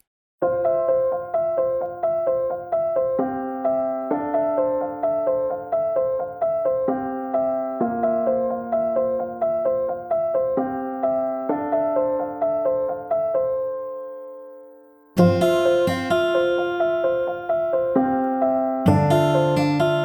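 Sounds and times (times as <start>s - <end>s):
soft keyboard piano: 0.4s - 20.0s.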